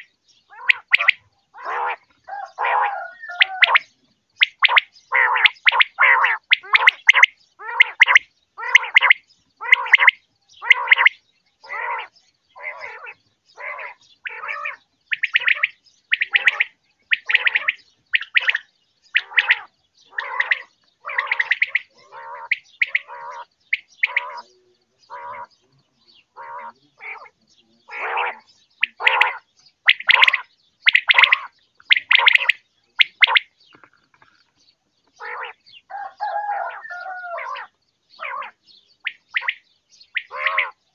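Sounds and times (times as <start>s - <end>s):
quail calling: 0.0s - 34.4s, 35.1s - 40.9s.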